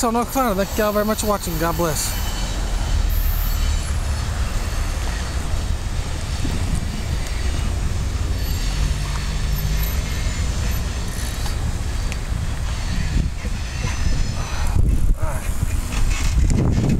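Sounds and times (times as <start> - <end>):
freight train rumbling: 0.0 - 16.9.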